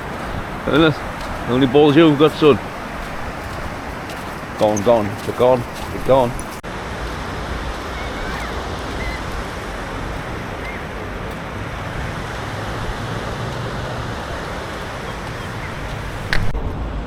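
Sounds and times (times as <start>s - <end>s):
sea surf on shore: 0.0s - 17.0s
wind: 0.0s - 17.0s.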